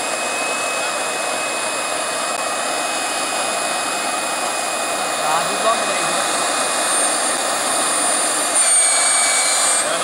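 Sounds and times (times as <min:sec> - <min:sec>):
model jet turbine running: 0:00.0 - 0:10.0.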